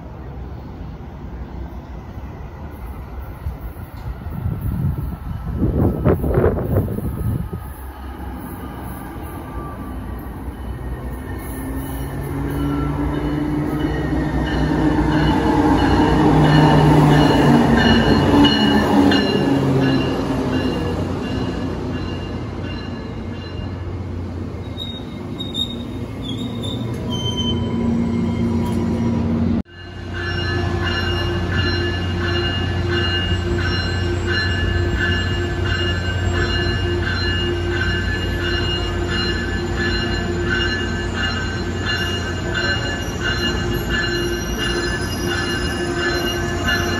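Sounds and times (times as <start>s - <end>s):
diesel locomotive passing: 0.0s - 46.9s
train wheels squealing on rails: 0.1s - 23.9s, 24.6s - 46.9s.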